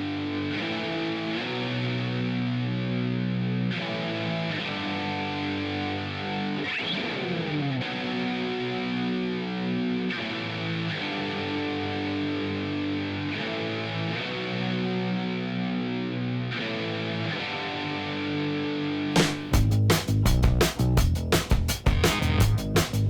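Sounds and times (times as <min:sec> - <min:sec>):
distorted electric guitar chords: 0:00.0 - 0:23.0.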